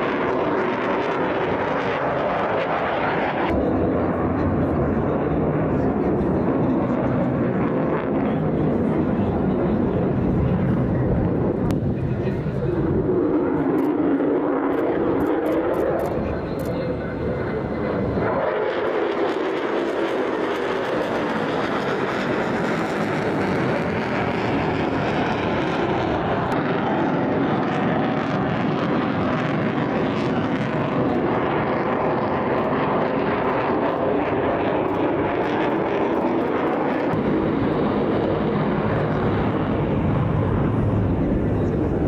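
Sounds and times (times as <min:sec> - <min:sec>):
jet engine roaring in flight: 0:00.0 - 0:42.0.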